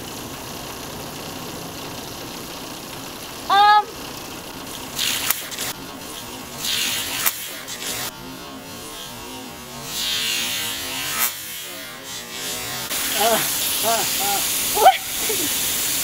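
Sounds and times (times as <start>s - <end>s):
hose water hissing and spraying: 0.0s - 8.2s, 9.2s - 16.0s.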